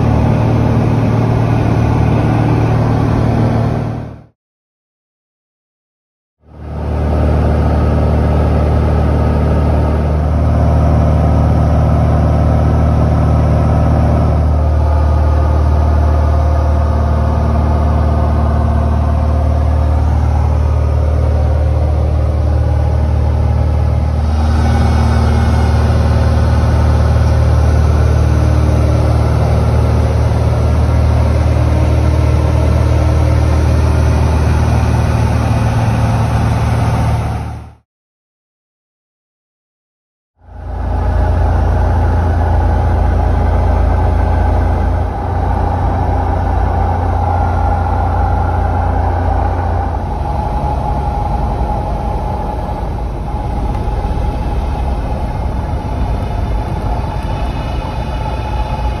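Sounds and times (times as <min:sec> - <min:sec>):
plane engine and propeller droning: 0:00.0 - 0:04.3, 0:06.4 - 0:37.8, 0:40.4 - 0:59.0.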